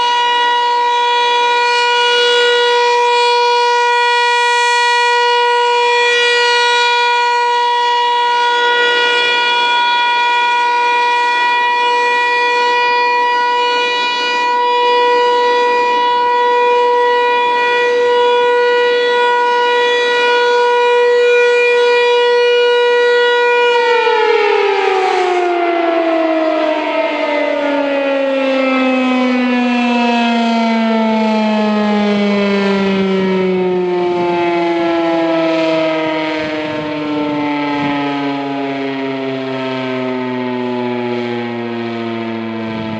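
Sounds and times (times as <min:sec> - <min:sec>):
warning siren winding down: 0:00.0 - 0:42.9.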